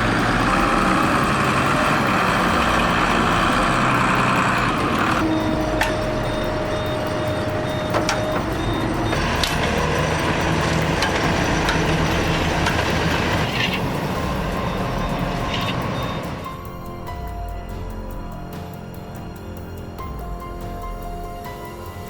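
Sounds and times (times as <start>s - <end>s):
high-pitched beeps: 0.0s - 19.6s
heavy machinery engine running: 0.0s - 22.0s.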